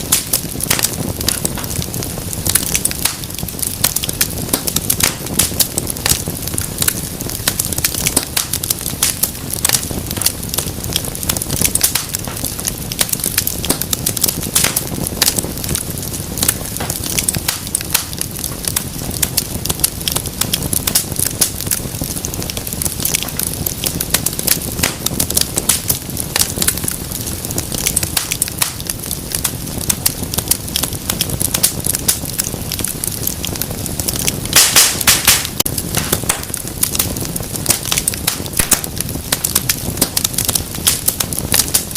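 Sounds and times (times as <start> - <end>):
logs crackling and popping: 0.0 - 41.9
low rush of flame: 0.0 - 41.9.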